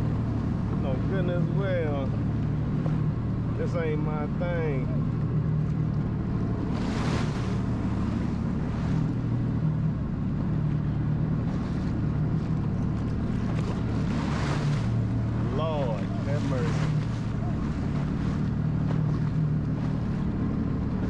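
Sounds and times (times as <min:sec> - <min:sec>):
jet ski engine droning: 0:00.0 - 0:21.0
water rushing: 0:00.0 - 0:21.0.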